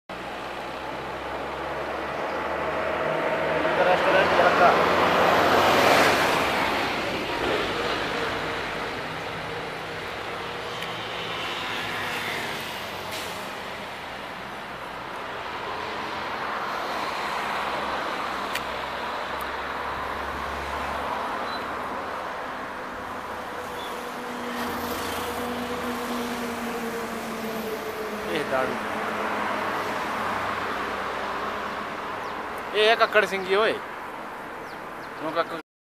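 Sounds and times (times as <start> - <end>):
traffic hum: 0.1 - 35.6.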